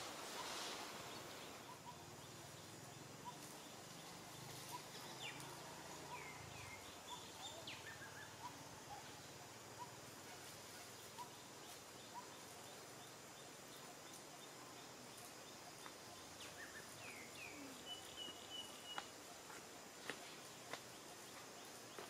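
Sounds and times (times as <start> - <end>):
distant bird chirps and calls: 0.0 - 22.0
faint steady hiss: 0.0 - 22.0.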